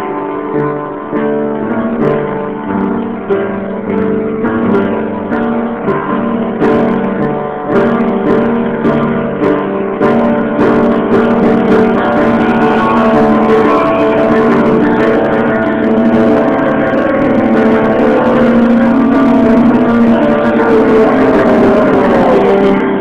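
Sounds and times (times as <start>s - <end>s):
strummed guitar chords: 0.0s - 23.0s.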